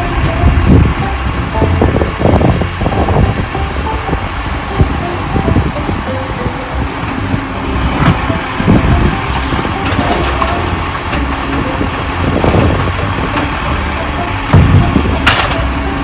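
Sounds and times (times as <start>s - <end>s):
garbage truck engine idling: 0.0s - 16.0s
knocks and clunks: 0.0s - 16.0s.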